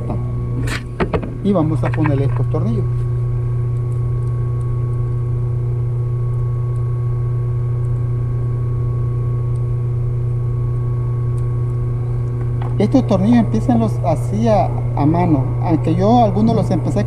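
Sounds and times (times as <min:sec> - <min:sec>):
electric hum: 0:00.0 - 0:17.0.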